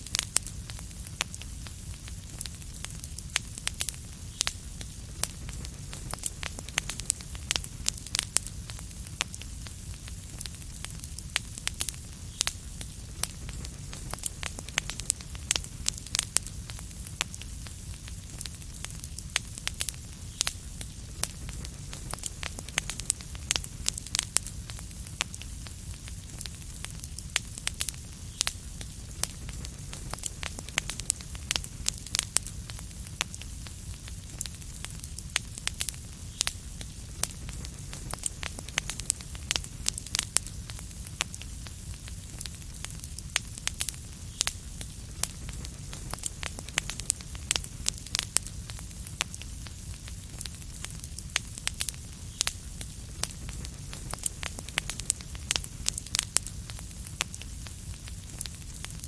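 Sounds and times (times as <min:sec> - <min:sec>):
soft hiss: 0:00.0 - 0:59.0
wood fire crackling and popping: 0:00.0 - 0:59.0.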